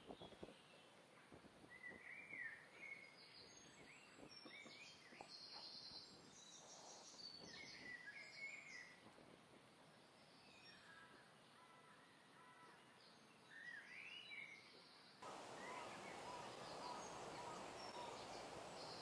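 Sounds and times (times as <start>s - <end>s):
faint birdsong chirping: 0.0s - 9.1s, 9.8s - 19.0s.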